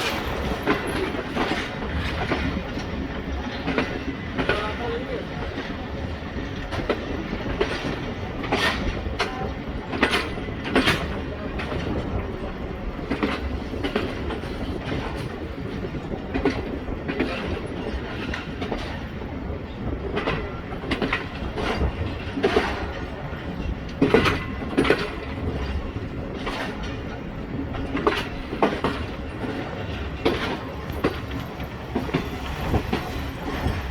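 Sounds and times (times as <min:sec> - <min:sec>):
train rumble: 0:00.0 - 0:33.9
wheels clacking over rail joints: 0:00.0 - 0:33.9.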